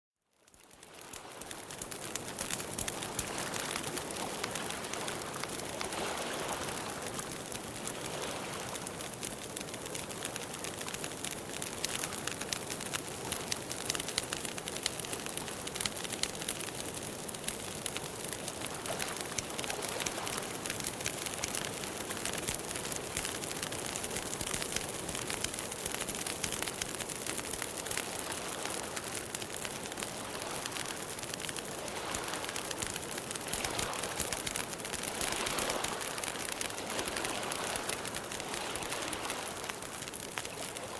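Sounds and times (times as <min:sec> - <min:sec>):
campfire crackling and popping: 0:00.4 - 0:40.9.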